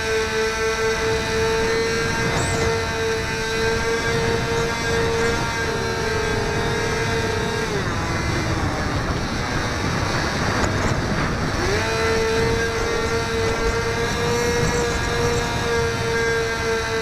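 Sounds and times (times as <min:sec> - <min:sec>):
electric motor and propeller whine: 0:00.0 - 0:17.0
wind rushing over microphone: 0:00.0 - 0:17.0.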